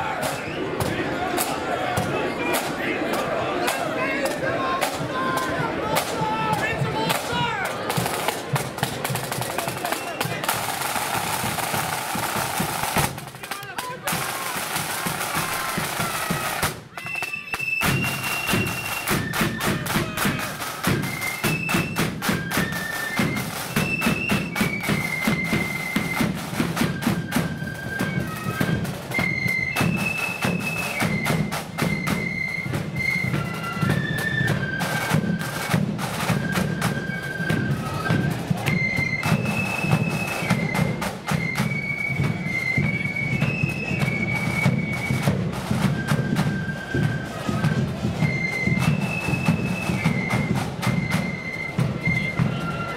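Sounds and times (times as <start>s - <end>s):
flutes playing high melody: 0.0s - 52.9s
side drums rattling: 3.7s - 52.6s.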